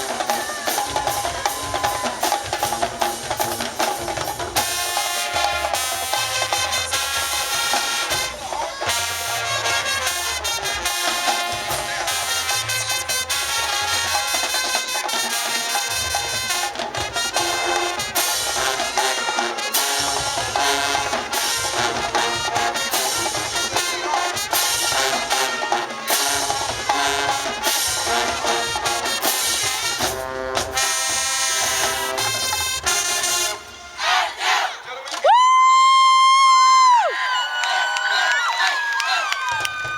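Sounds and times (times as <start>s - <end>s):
trumpets and trombones: 0.0s - 35.2s
drums: 0.0s - 39.9s
marching band playing: 0.0s - 39.9s.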